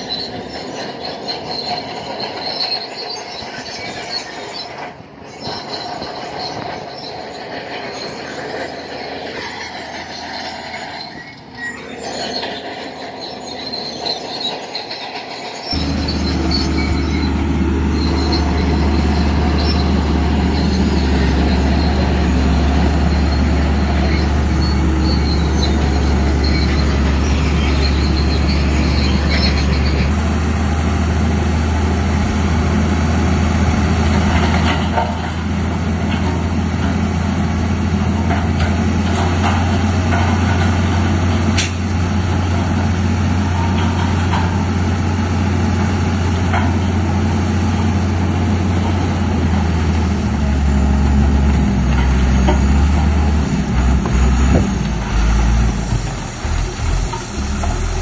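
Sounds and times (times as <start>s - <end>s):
steel tracks squealing and clanking: 0.0s - 30.2s, 33.6s - 58.0s
bulldozer diesel engine running: 0.0s - 58.0s.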